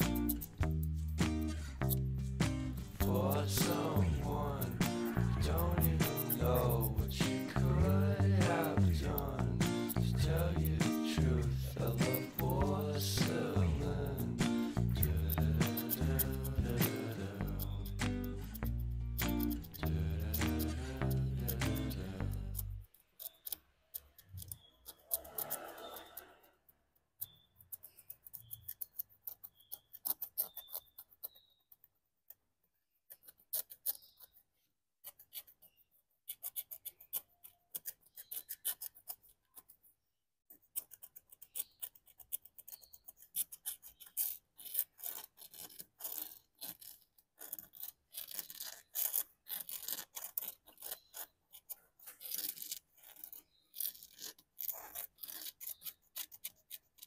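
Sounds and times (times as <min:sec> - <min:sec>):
stylus scraping card: 0:00.0 - 0:57.0.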